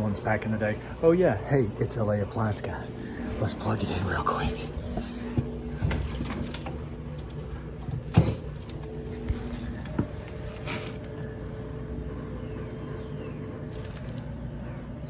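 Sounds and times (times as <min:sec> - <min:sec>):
refrigerator electrical hum: 0:00.0 - 0:15.0.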